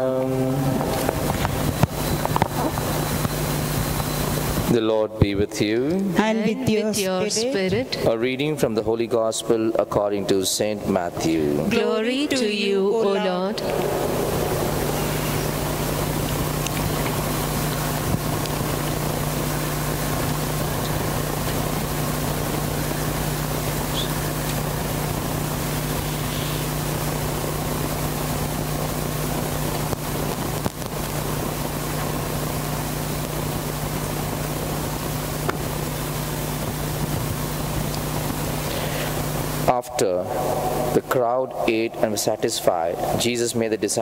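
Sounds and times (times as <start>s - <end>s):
loud static hiss: 0.0s - 44.0s
low electrical hum: 0.0s - 44.0s.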